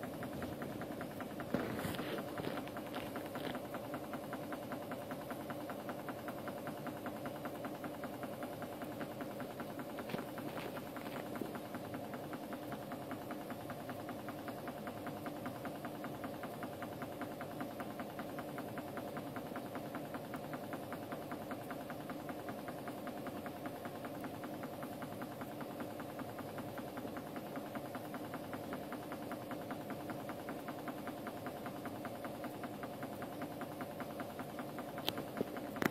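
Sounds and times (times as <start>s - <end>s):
pump buzzing hum: 0.0s - 35.9s.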